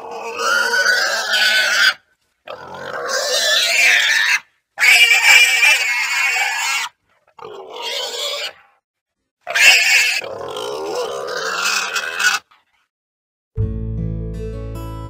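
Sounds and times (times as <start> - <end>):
wild boar calling: 0.0 - 8.8, 9.4 - 12.8.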